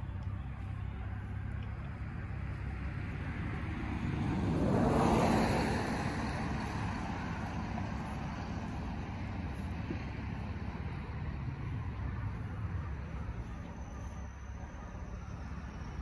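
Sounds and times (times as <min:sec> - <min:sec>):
steady low rumble: 0:00.0 - 0:16.0
vehicle driving past: 0:00.0 - 0:16.0.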